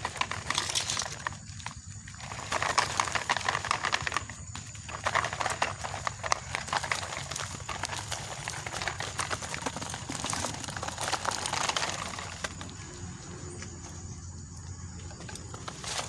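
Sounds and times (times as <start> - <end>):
toy truck wooden pieces clattering: 0.0 - 13.0, 15.1 - 16.0.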